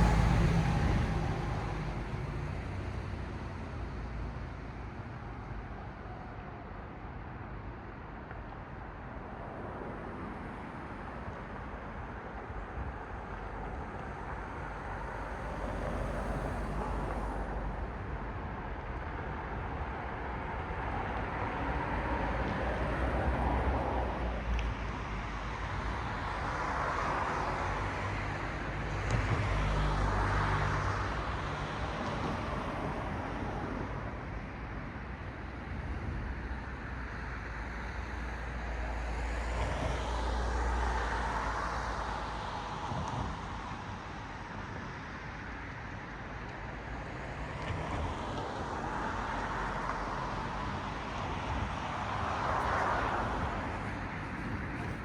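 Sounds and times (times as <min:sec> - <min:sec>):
cars passing: 0:00.0 - 0:05.4, 0:09.4 - 0:55.0
low traffic rumble: 0:00.0 - 0:55.0.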